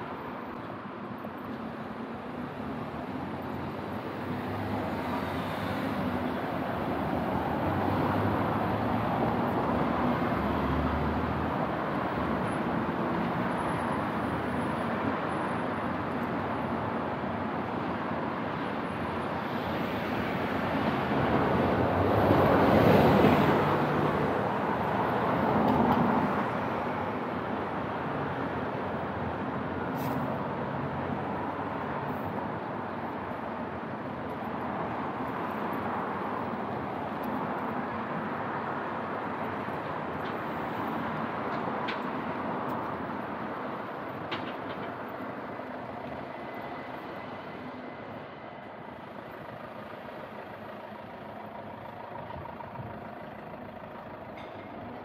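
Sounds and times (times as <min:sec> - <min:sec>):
hum of passing traffic: 0:00.0 - 0:55.0.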